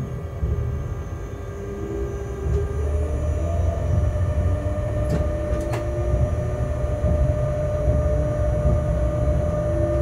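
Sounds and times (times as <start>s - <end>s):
locomotive low rumble: 0.0s - 10.0s
rising whine: 0.0s - 10.0s
steady tone: 0.0s - 10.0s.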